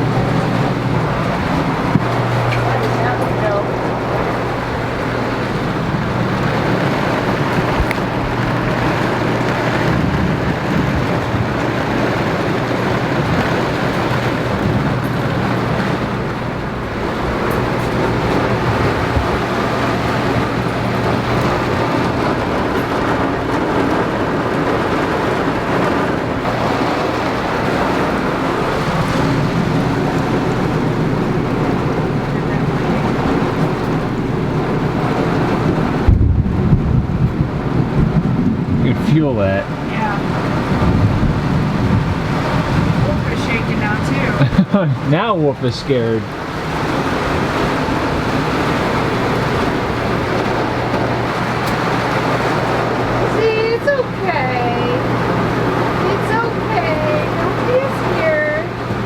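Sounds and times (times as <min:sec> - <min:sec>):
heavy rain on a metal roof: 0:00.0 - 0:59.0
steady low hum: 0:00.0 - 0:59.0.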